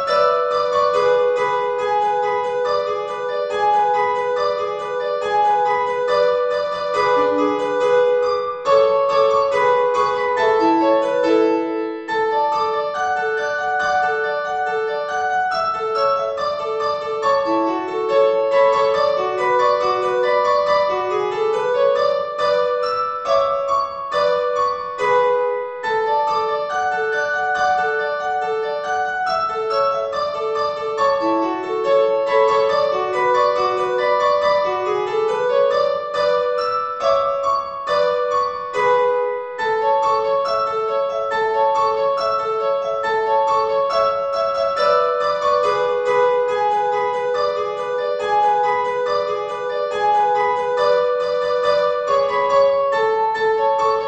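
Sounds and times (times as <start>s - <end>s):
solo piano melody: 0.0s - 54.0s.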